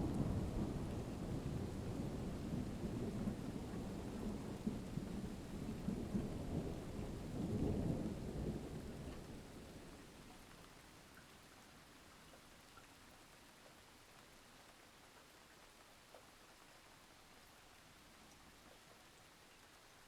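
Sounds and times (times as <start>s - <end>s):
rain: 0.0s - 20.0s.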